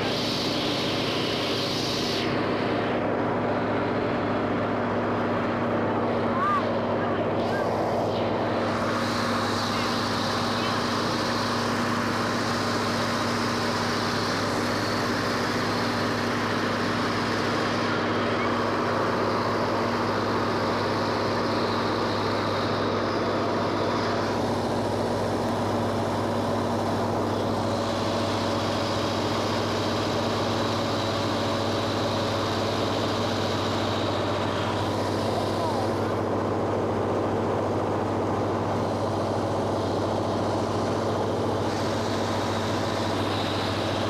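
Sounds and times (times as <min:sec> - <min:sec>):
vehicle engine drone: 0:00.0 - 0:44.0.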